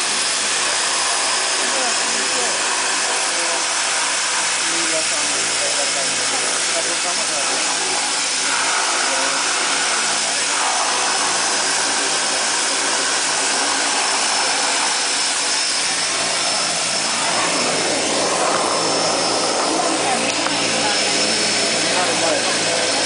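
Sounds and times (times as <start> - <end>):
turboprop engines running: 0.0 - 23.0.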